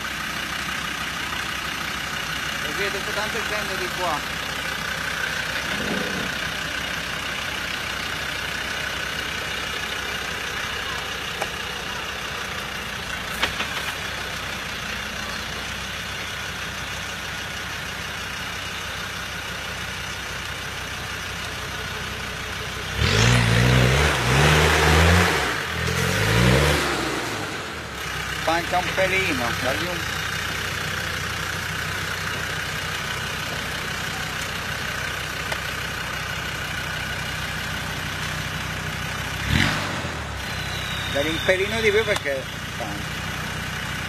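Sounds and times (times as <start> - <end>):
off-road vehicle engine revving: 0.0 - 16.4, 20.8 - 44.0.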